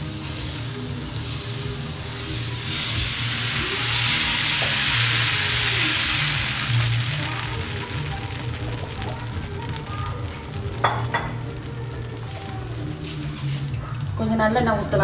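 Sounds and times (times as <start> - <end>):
batter sizzling on hot griddle: 0.0 - 15.0.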